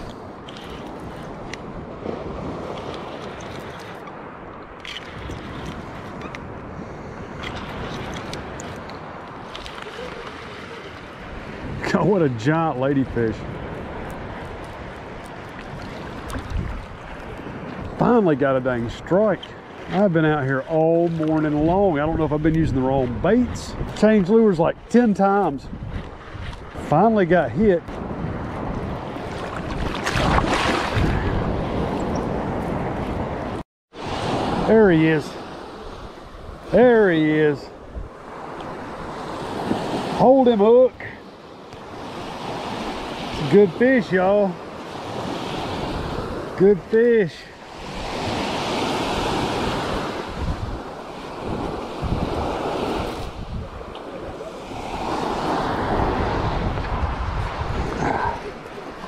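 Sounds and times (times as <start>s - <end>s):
wind buffeting microphone: 0.0s - 40.9s, 47.6s - 59.0s
surf washing ashore: 0.0s - 59.0s.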